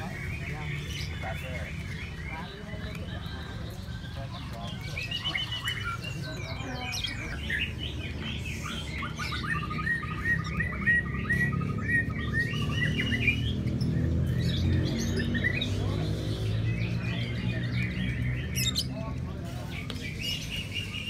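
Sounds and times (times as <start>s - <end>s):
lovebirds chirping: 0.0s - 21.0s.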